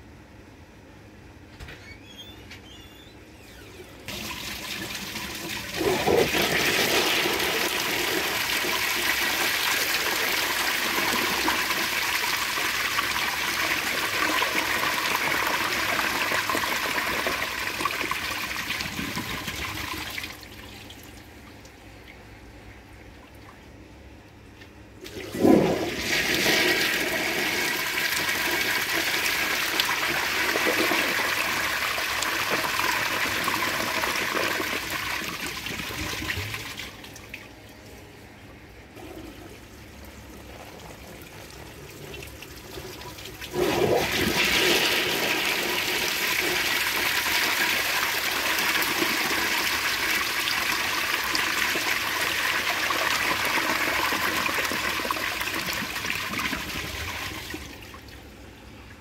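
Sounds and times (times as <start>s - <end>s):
toilet flushing: 3.8s - 21.1s, 25.0s - 37.5s, 38.9s - 58.3s.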